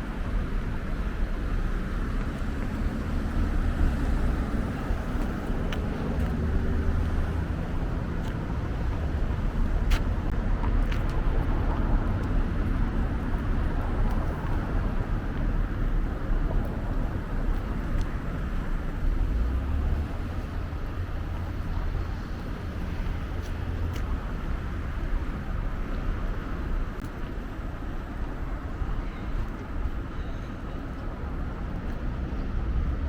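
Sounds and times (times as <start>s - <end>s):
low rumble of street ambience: 0.0s - 33.0s.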